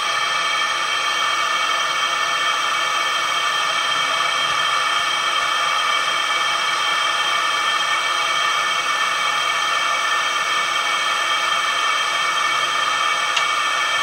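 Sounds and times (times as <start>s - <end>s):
faint steady whines: 0.0s - 14.0s.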